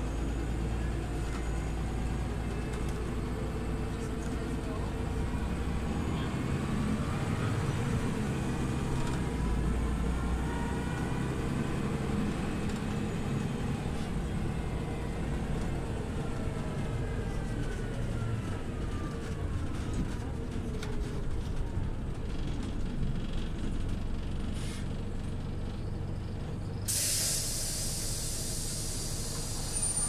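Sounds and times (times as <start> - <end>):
bus engine rumble: 0.0 - 30.0.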